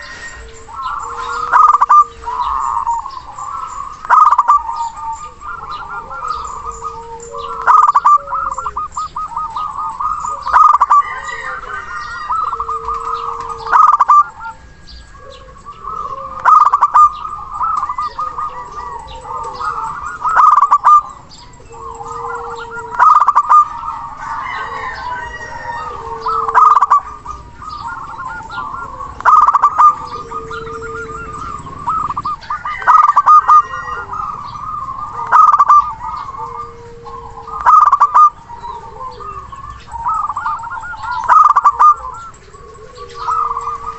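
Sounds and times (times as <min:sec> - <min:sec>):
bird calls: 0:00.0 - 0:43.9
dove cooing: 0:00.0 - 0:43.9.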